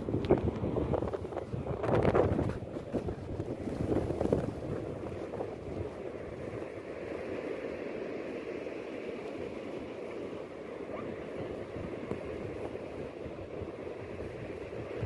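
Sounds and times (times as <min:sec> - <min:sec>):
small waves washing: 0:00.0 - 0:15.0.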